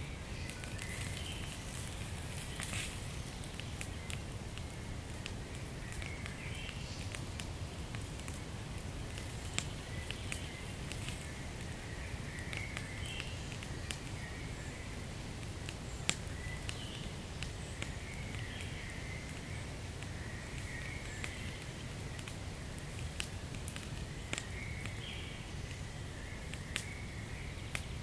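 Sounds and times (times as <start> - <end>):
wood fire crackling and popping: 0.2 - 28.0.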